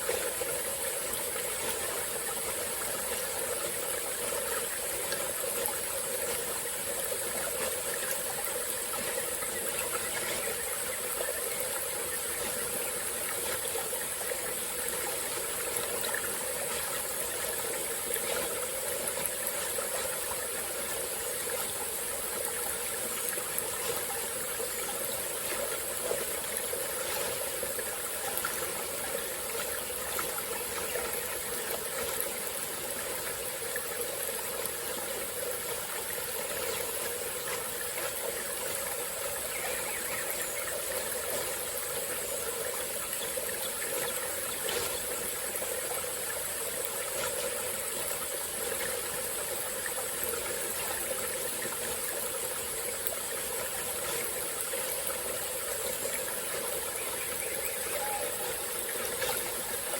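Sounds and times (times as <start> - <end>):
constant high hiss: 0.0 - 59.9
stream flowing: 0.0 - 59.9.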